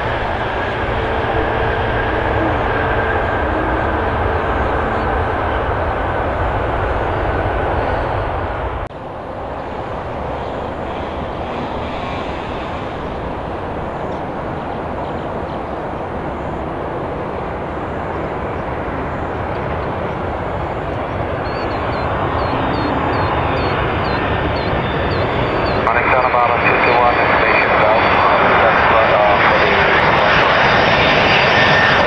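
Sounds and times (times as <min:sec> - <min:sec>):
jet plane engines droning: 0:00.0 - 0:32.0.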